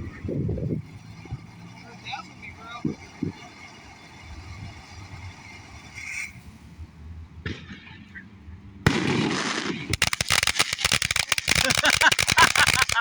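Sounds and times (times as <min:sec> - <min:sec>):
firework crackling: 0:00.0 - 0:06.8, 0:08.9 - 0:13.0
firework hissing: 0:00.0 - 0:06.8, 0:08.9 - 0:13.0.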